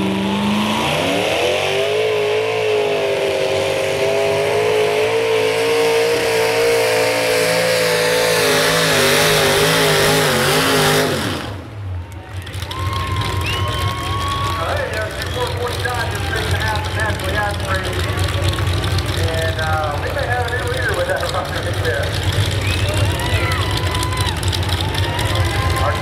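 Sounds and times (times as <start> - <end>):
tractor engines revving: 0.0 - 26.0.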